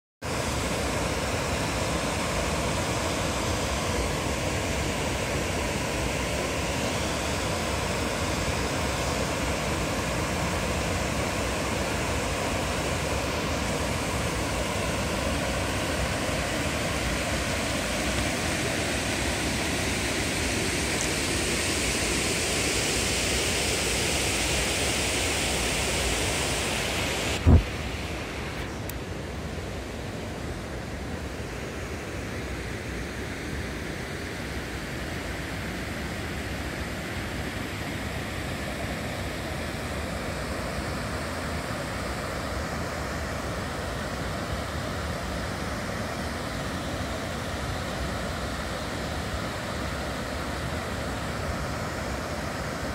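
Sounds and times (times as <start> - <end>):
river water rushing over weir: 0.2 - 52.9.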